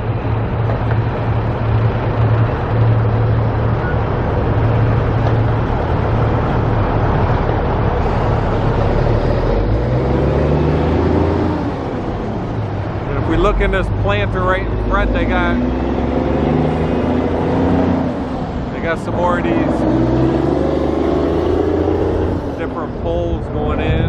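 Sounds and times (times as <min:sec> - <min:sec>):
large vehicle engine running: 0:00.0 - 0:24.0
traffic noise: 0:00.0 - 0:24.0.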